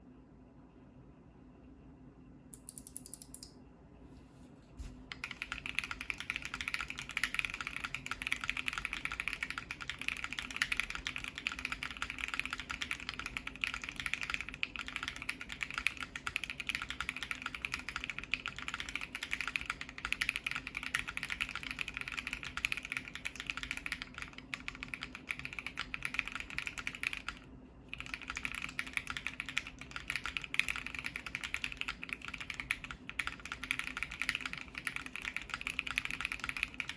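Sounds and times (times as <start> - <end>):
typing on mechanical keyboard: 5.1 - 36.9.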